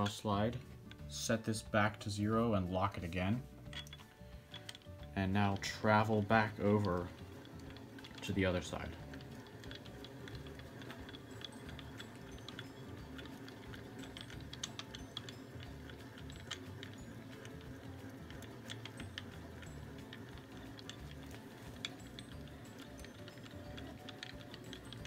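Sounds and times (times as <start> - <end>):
milling machine handwheel clicking: 0.0 - 25.0.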